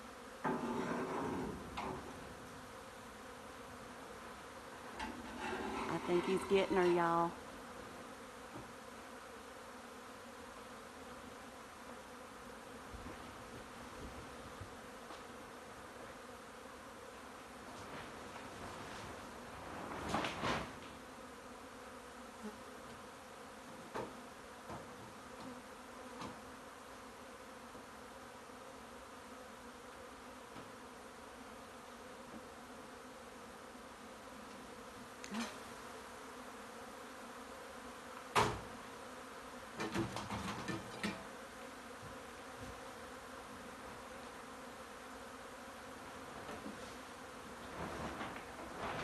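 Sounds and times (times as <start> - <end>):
bees buzzing: 0.0 - 19.7, 20.6 - 49.0.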